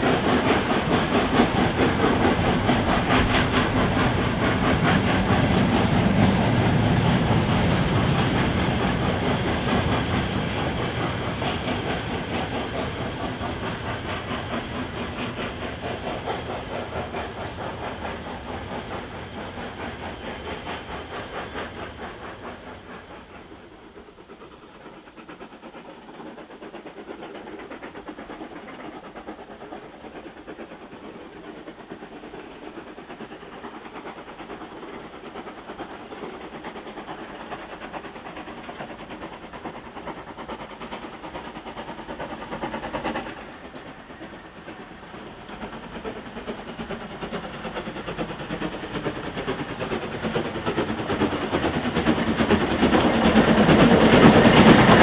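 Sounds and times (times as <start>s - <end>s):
steam locomotive exhaust beats: 0.0s - 55.0s.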